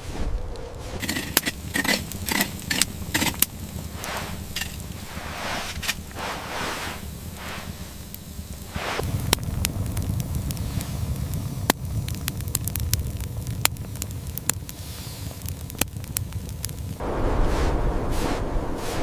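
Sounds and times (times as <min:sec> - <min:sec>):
fire crackling and popping: 0:00.3 - 0:17.1
low steady rumble: 0:00.3 - 0:19.0.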